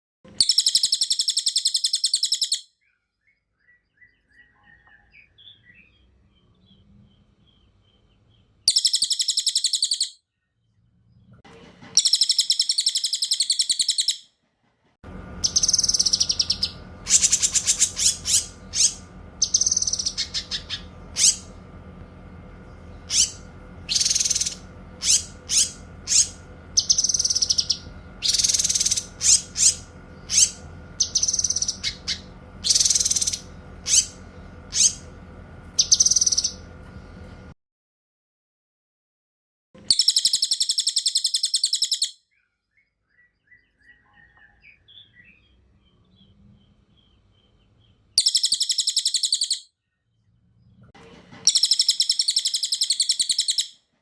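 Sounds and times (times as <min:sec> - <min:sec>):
songbird buzzy trills: 0:00.3 - 0:11.4, 0:15.1 - 0:37.5, 0:39.8 - 0:53.8
steady background hum: 0:03.3 - 0:37.6, 0:43.2 - 0:54.0.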